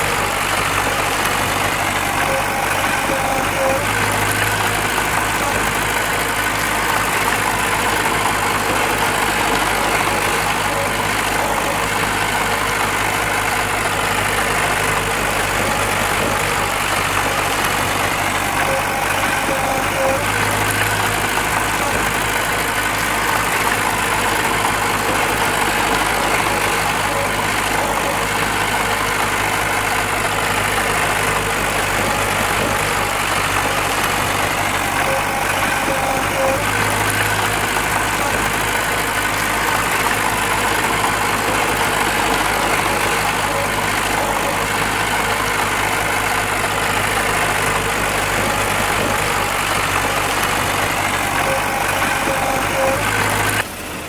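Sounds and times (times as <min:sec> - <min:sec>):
diesel engine running at low revs: 0:00.0 - 0:54.0.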